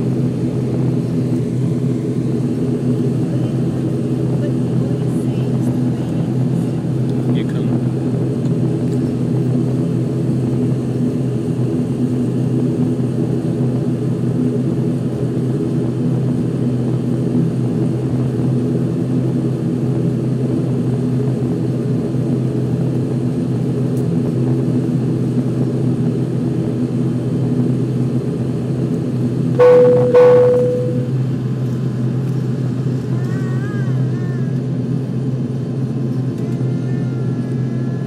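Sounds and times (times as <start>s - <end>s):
propeller aircraft cabin drone: 0.0s - 38.0s.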